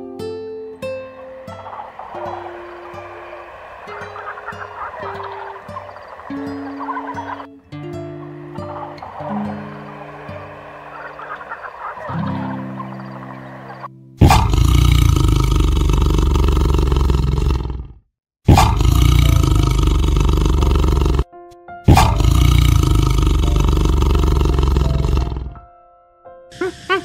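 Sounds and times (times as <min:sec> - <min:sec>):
tiger roaring: 0:01.0 - 0:21.3, 0:21.9 - 0:25.6.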